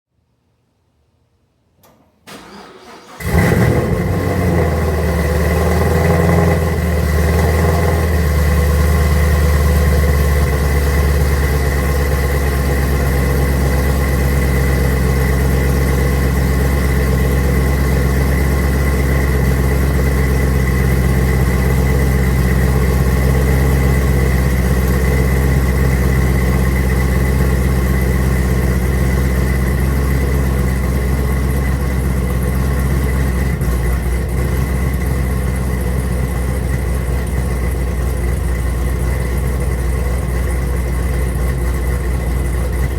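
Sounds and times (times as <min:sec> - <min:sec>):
car engine cold start and idle: 0:01.8 - 0:42.9.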